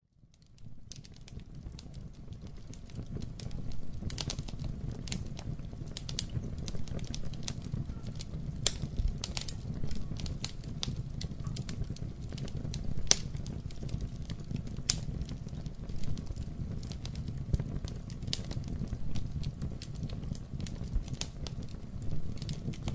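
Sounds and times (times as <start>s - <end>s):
flames rumbling: 0.1s - 22.9s
wood crackling and popping: 0.2s - 22.9s.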